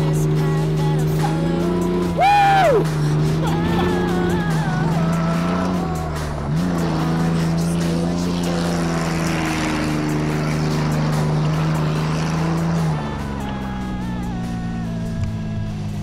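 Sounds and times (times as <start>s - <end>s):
background music with held notes: 0.0s - 16.0s
engine running under load: 0.0s - 16.0s.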